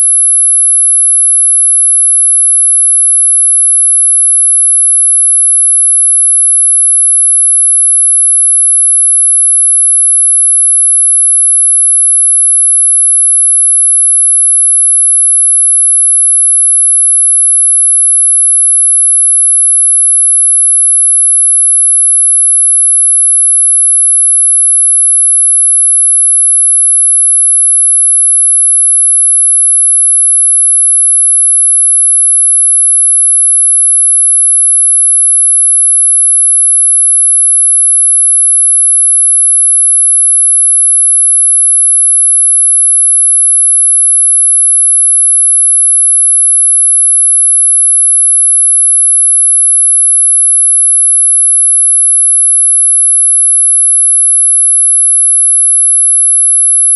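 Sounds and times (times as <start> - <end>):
high-pitched sine tone: 0.0 - 56.9.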